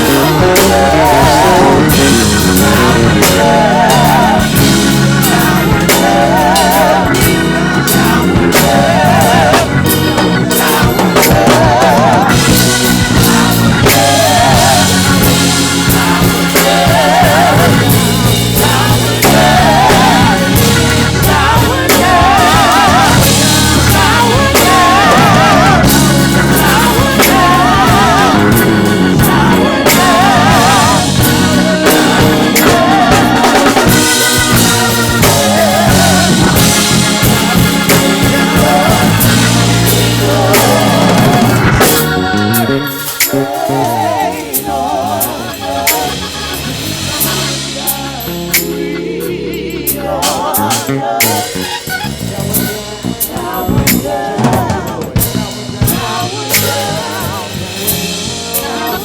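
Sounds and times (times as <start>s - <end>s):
drum kit groove: 0.0s - 59.0s
gospel band playing: 0.0s - 59.0s
vibrato vocals: 0.0s - 59.0s.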